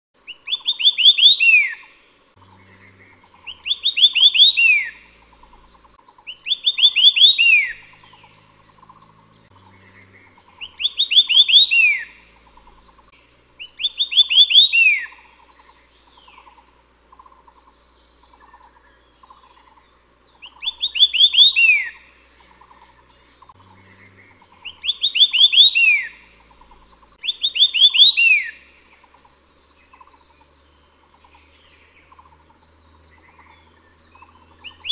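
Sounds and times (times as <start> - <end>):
bird singing: 0.2 - 34.9.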